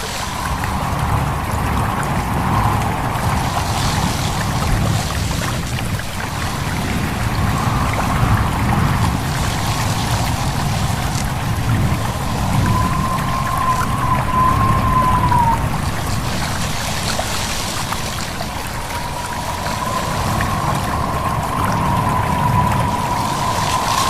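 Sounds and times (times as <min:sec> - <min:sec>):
steady low rumble: 0:00.0 - 0:24.0
stream babbling: 0:00.0 - 0:24.0
whistling wind: 0:00.0 - 0:24.0.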